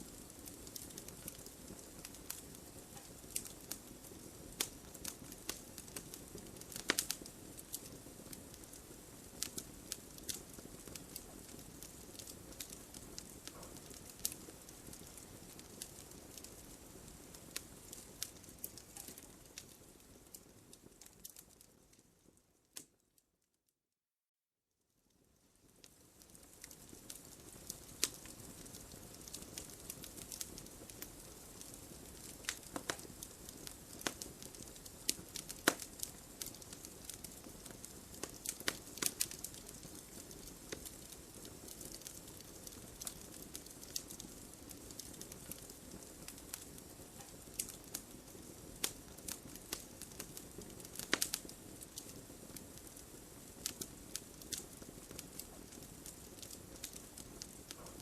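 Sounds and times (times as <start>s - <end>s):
wood fire crackling and popping: 0.0s - 23.0s, 25.2s - 58.0s.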